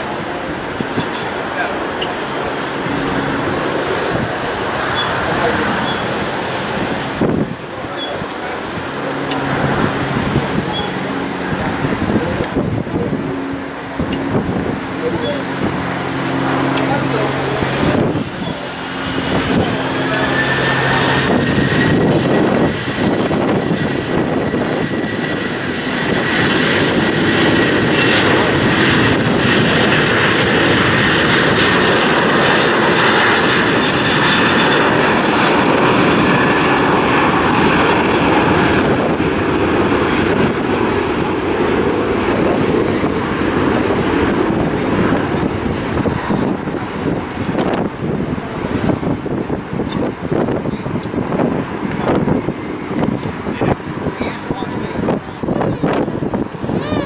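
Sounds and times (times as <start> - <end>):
jet engines at takeoff thrust: 0.0 - 57.0.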